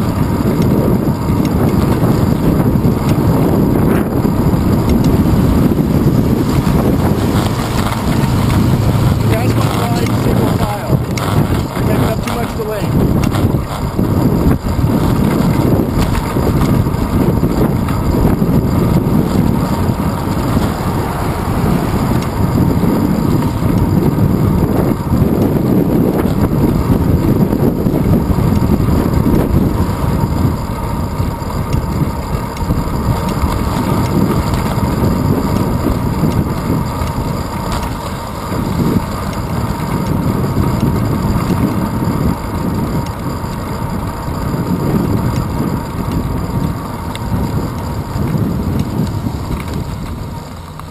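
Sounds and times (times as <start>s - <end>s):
wind rushing: 0.0s - 43.5s
bicycle tyres rumbling on pavement: 0.0s - 50.9s.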